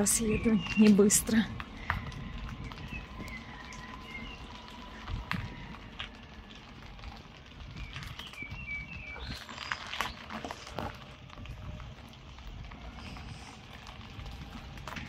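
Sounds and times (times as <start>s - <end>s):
bicycle rattling over bumps: 0.0s - 15.0s
bicycle tyres rumbling: 0.0s - 15.0s.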